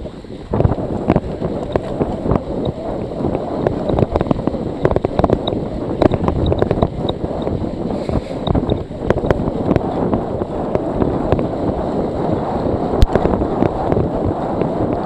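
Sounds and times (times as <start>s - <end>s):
tyres rumbling on snowy road: 0.0s - 15.0s
wind buffeting microphone: 0.0s - 15.0s.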